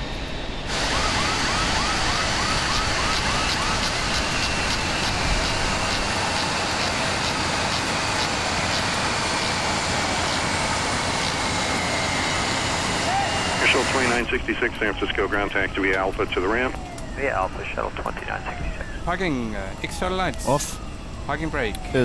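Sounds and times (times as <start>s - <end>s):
loud steady rushing noise: 0.0s - 21.8s
siren-like warbling tone: 0.7s - 22.0s.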